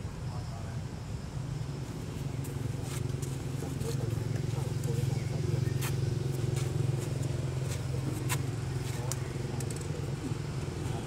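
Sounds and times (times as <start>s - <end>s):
low motor hum: 1.7s - 11.0s.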